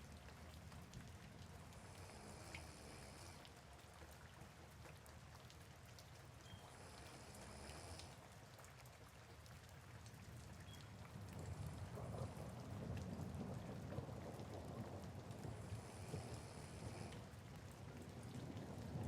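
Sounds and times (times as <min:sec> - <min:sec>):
rain drops ticking: 0:00.0 - 0:19.0
soft rain: 0:00.0 - 0:19.0.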